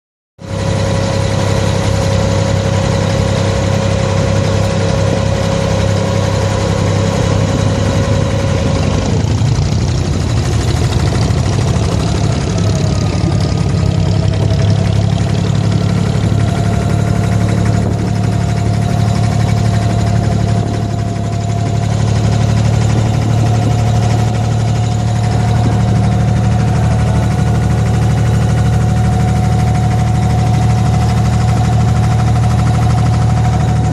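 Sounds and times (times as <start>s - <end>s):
boat engine droning: 0.4s - 33.9s.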